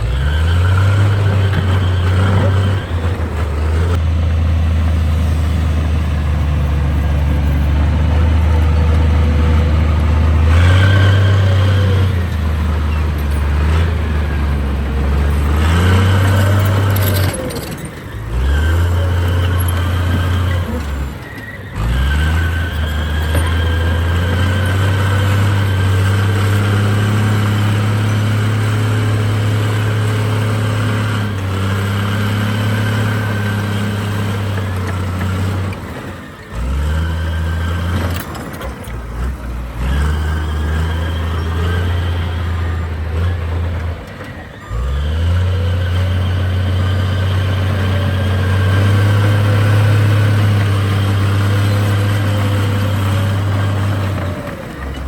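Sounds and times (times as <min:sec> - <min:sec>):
heavy diesel engine under load: 0:00.0 - 0:55.0.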